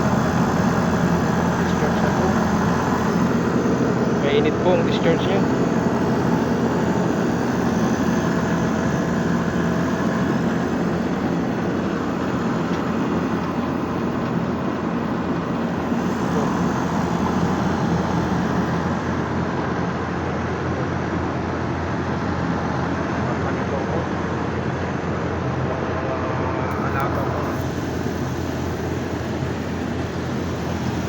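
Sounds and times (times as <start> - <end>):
compressor low hum: 0.0 - 31.0
condenser fan rushing: 0.0 - 31.0.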